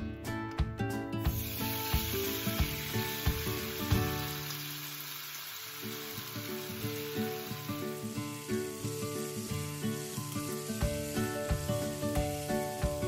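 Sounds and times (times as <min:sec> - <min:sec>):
background music: 0:00.0 - 0:13.0
meat sizzling in hot oil: 0:01.2 - 0:13.0.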